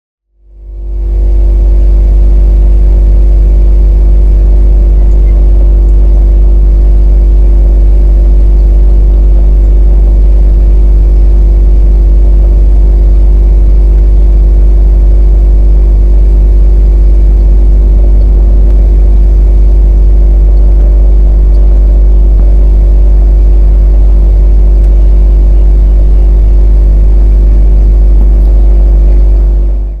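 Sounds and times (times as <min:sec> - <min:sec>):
heavy low rumble: 0:00.3 - 0:30.0
drone motors buzzing: 0:00.8 - 0:30.0.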